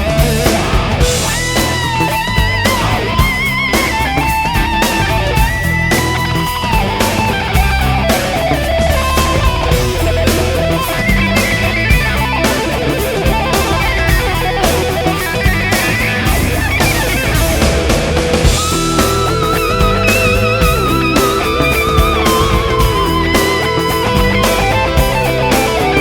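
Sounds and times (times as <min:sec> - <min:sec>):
rock music: 0:00.0 - 0:26.0
wavering guitar lead line: 0:00.0 - 0:26.0.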